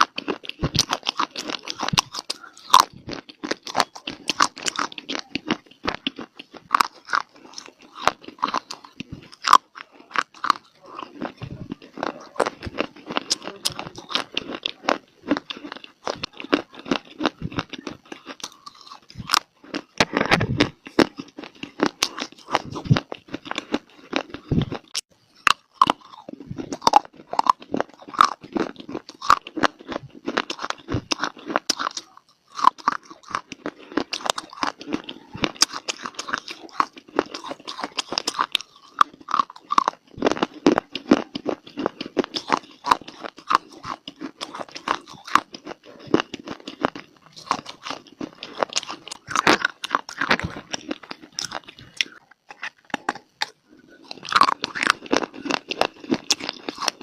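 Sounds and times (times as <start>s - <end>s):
biting and chewing dry clay: 0.0s - 57.0s.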